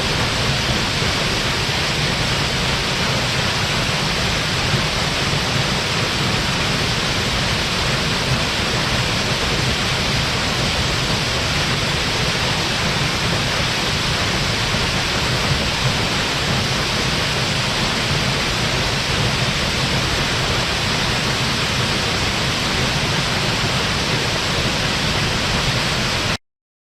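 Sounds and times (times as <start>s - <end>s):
waterfall crashing: 0.0s - 26.4s.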